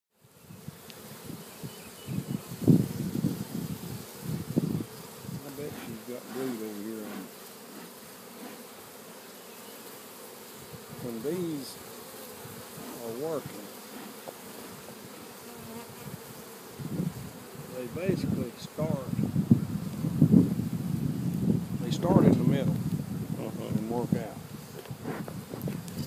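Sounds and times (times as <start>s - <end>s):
bee flying past: 0.2s - 26.0s
honeybees buzzing: 0.2s - 26.0s.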